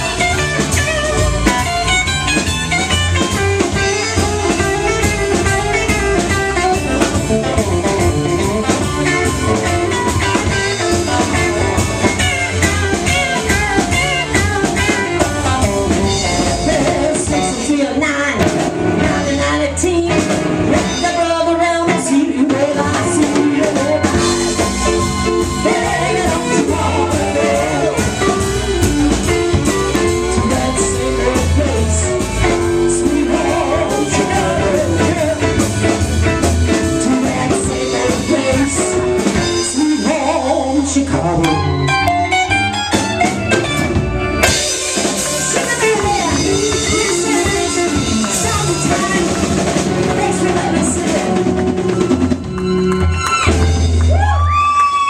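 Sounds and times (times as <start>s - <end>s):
live blues band playing: 0.0s - 55.0s.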